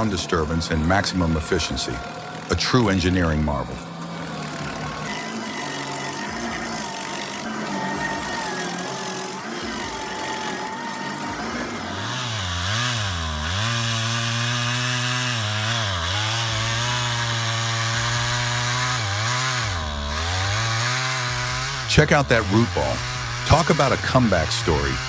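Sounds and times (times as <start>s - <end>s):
chainsaw engine bogging in cut: 0.0s - 25.0s.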